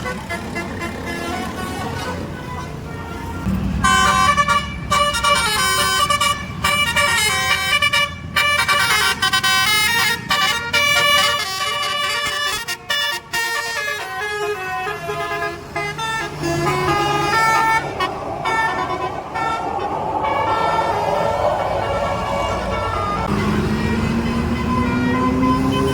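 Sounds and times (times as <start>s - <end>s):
bus engine running: 0.0s - 12.6s, 14.0s - 25.9s
bus melody horn playing a tune: 0.0s - 18.1s, 22.5s - 25.9s.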